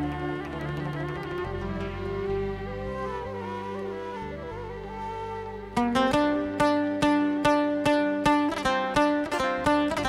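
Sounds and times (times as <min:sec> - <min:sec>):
solo oud plucked: 0:00.0 - 0:10.0.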